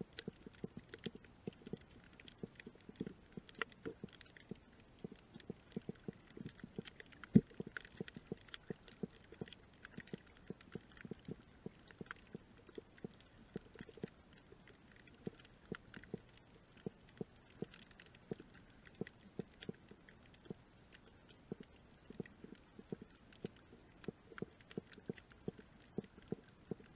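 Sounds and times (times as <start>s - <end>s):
underwater crackle of small clicks: 0.0s - 26.9s.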